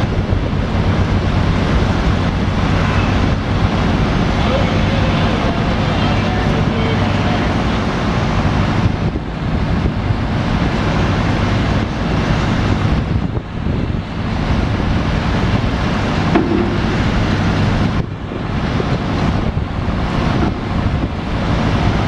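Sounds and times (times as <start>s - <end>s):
boat engine droning: 0.0s - 22.0s
wind buffeting microphone: 0.0s - 22.0s.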